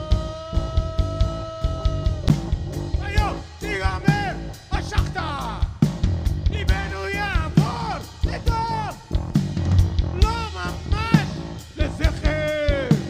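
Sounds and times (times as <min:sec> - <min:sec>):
bass line: 0:00.0 - 0:13.0
bending lead melody: 0:00.0 - 0:13.0
drums steady beat: 0:00.0 - 0:13.0.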